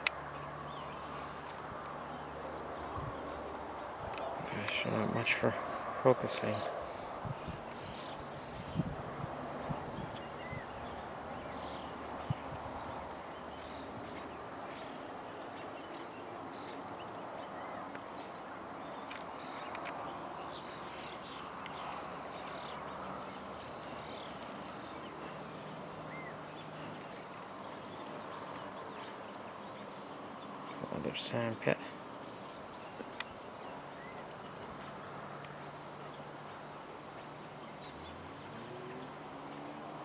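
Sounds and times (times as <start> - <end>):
cricket chirping: 0.0 - 40.0.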